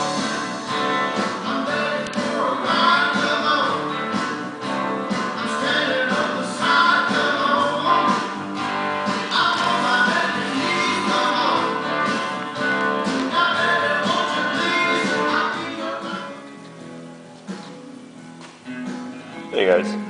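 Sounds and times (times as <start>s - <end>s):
background music with guitar: 0.0s - 20.0s.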